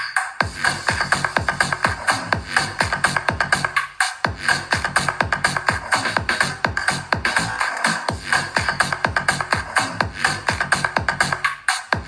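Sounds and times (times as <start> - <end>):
electronic dance music: 0.0 - 12.0
fast kick-drum beat: 0.2 - 12.0.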